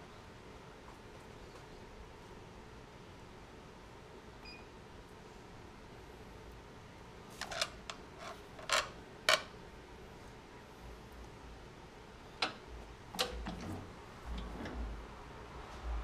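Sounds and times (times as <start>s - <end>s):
faint machine hum: 0.0s - 16.0s.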